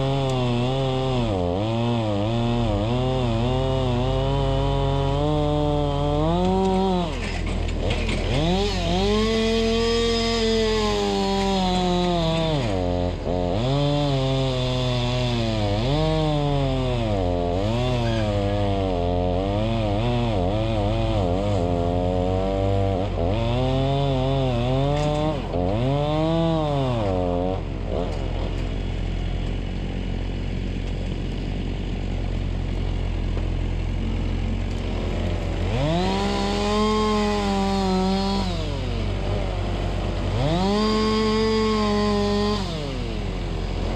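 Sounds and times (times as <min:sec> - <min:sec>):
chainsaw cutting logs: 0:00.0 - 0:43.9.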